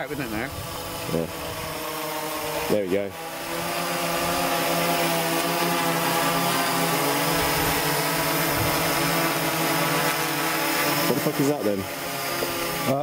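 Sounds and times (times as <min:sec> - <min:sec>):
model aircraft motor buzzing: 0:00.0 - 0:13.0.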